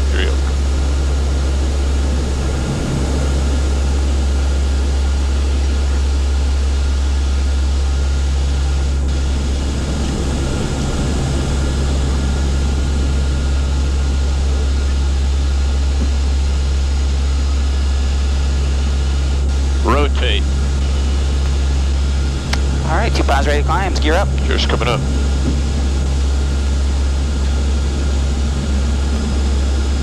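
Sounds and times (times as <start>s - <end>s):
loud aircraft engine noise: 0.0s - 30.0s
propeller drone: 0.0s - 30.0s.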